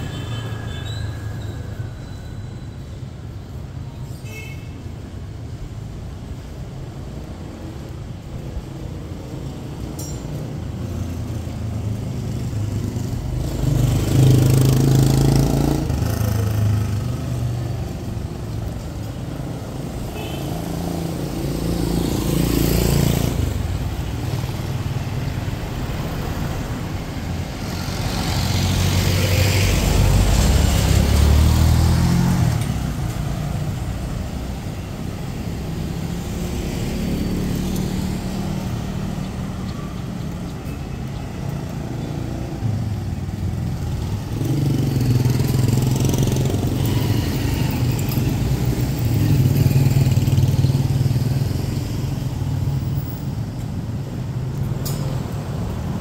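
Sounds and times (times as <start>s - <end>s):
constant traffic hum: 0.0s - 56.0s
vehicles passing close by: 0.0s - 56.0s.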